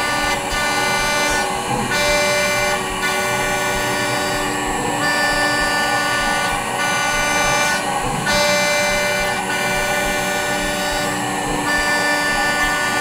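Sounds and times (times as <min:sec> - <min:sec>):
metal cutting noise: 0:00.0 - 0:13.0
milling spindle whine: 0:00.0 - 0:13.0.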